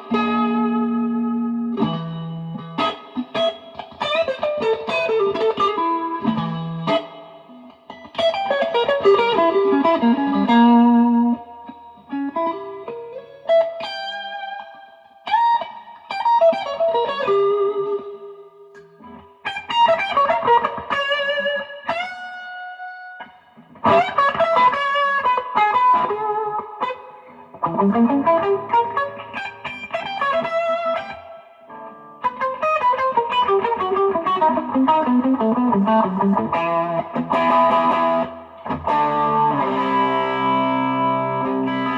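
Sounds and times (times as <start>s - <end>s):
electric guitar lead phrases: 0.0s - 41.9s.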